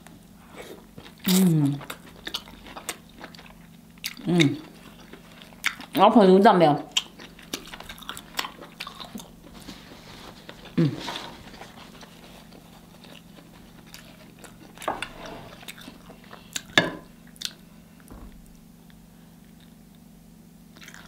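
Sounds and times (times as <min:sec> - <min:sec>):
person chewing: 0:00.0 - 0:06.0, 0:06.9 - 0:17.7, 0:20.8 - 0:21.0.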